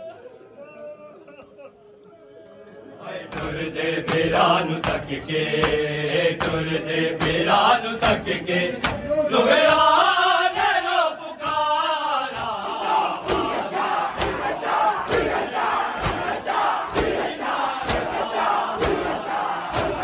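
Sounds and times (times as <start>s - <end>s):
men chanting in unison: 3.0s - 20.0s.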